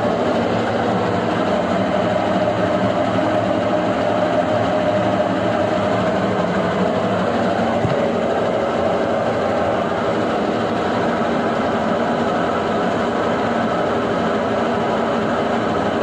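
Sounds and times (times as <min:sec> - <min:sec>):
washing machine drone: 0:00.0 - 0:16.0.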